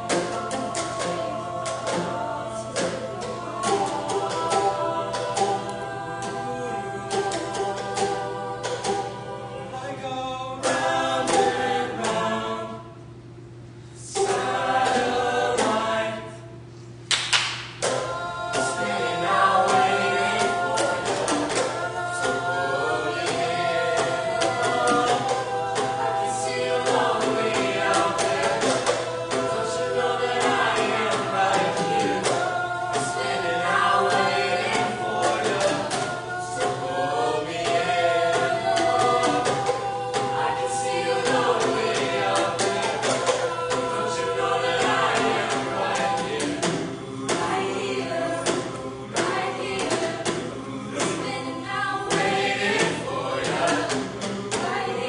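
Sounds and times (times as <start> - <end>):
vocal ensemble singing in harmony: 0.0 - 55.0.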